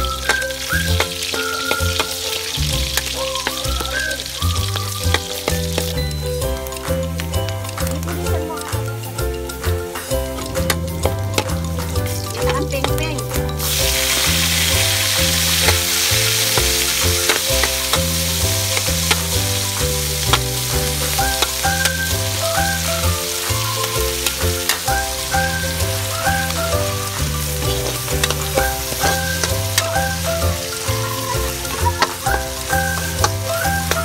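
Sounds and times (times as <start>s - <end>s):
background music: 0.0s - 34.0s
food sizzling in hot oil: 0.0s - 34.0s.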